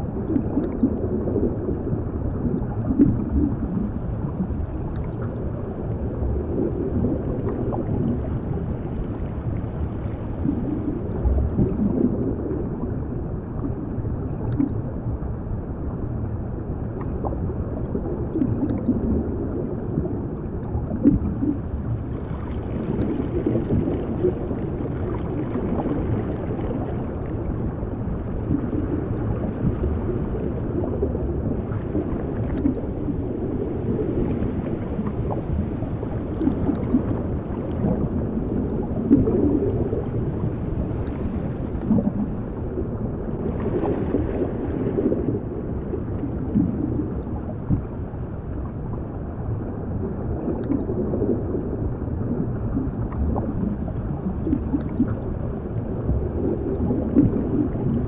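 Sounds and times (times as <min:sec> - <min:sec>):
underwater bubbling and gurgling: 0:00.0 - 0:58.0.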